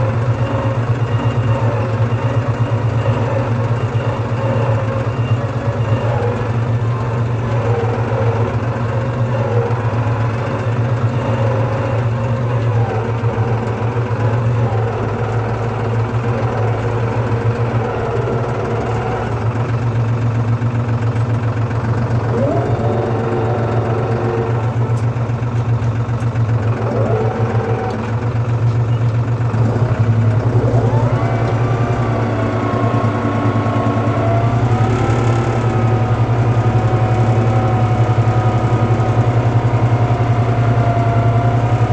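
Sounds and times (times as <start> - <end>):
tractor diesel engine revving: 0.0 - 41.9.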